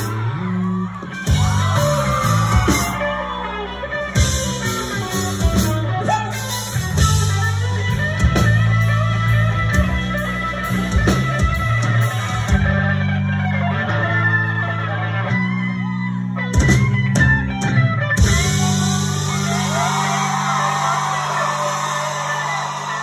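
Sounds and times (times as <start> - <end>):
drums: 0.0 - 23.0
electric guitar lines: 0.0 - 23.0
held bass notes: 0.0 - 23.0.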